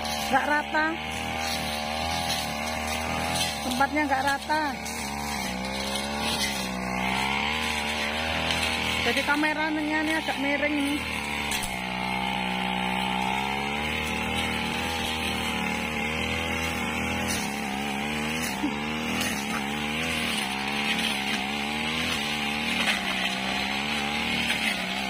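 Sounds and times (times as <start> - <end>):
brush cutter engine cutting grass: 0.0 - 25.0.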